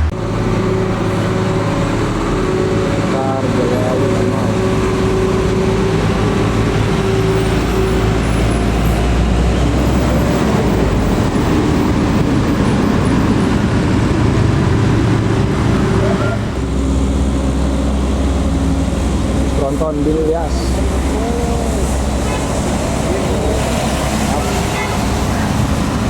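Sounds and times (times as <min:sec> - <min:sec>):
bus engine running under load: 0:00.0 - 0:26.0
tyre and road traffic noise: 0:00.0 - 0:26.0.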